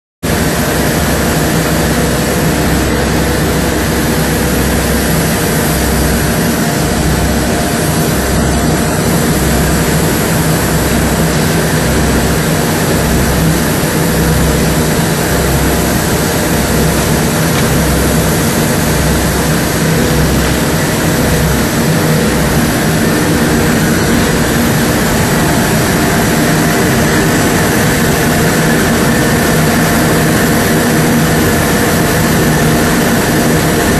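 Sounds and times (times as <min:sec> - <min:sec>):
recycling machinery throbbing: 0:00.3 - 0:33.9.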